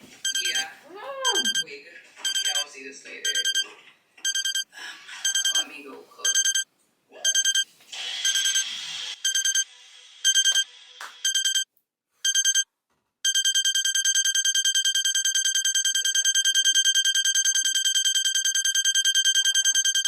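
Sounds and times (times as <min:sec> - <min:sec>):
electronic alarm beeping: 0:00.2 - 0:06.6, 0:07.2 - 0:11.6, 0:12.2 - 0:12.6, 0:13.2 - 0:20.0.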